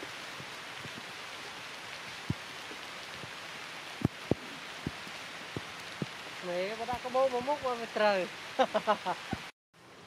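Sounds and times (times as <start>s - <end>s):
heavy raindrops striking: 0.0s - 9.5s
rain falling on leaves: 0.0s - 10.0s.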